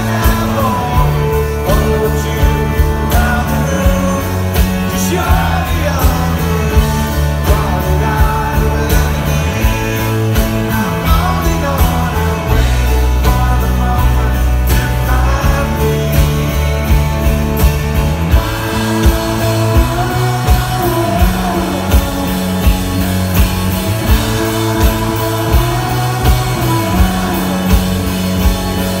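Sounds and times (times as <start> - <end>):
acoustic guitar strumming: 0.0 - 29.0
bass guitar: 0.0 - 29.0
drum beat: 0.0 - 29.0
electric guitar: 0.0 - 29.0
man singing: 0.0 - 29.0.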